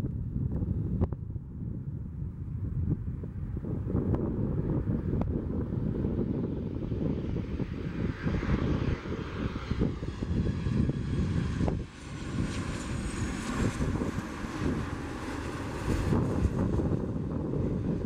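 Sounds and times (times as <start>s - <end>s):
wind buffeting microphone: 0.0s - 18.0s
high jet engine whine: 3.1s - 18.0s
jet engines rumbling: 3.1s - 18.0s.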